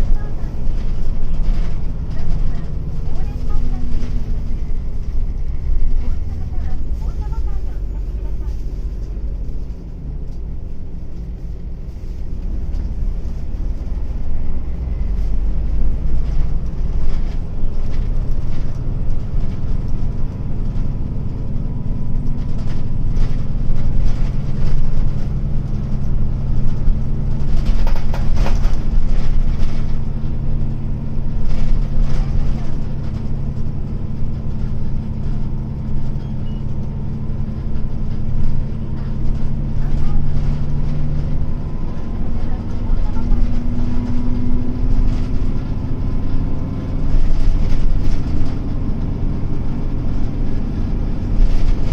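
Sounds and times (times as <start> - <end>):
bus diesel engine running: 0.0 - 51.9.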